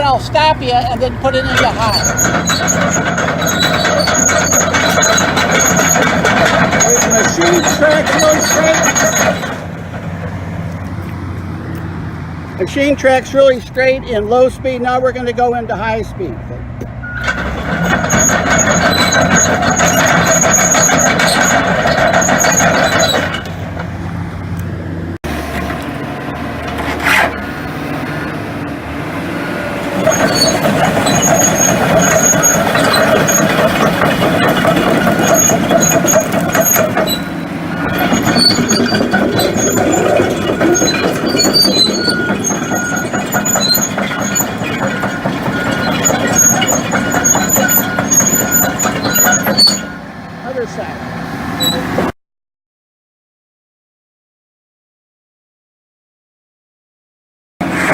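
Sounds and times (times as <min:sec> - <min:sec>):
diesel engine under load: 0:00.0 - 0:52.2, 0:57.6 - 0:57.9
tracks squealing and clanking: 0:00.0 - 0:52.2.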